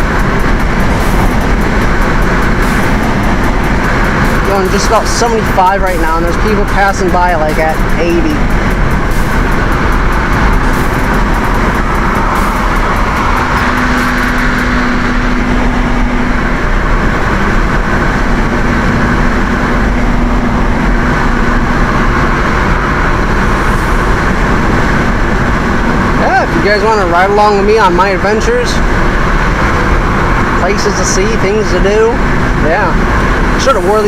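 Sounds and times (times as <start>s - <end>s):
low hum: 0.0s - 33.7s
road and wind noise inside car: 0.0s - 34.0s.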